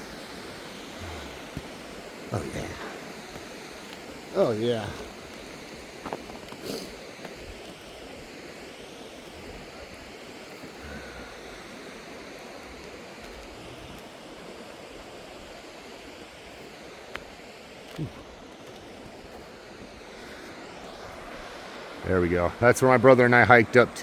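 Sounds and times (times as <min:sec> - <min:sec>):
waterfall and creek rushing: 0:00.0 - 0:24.0.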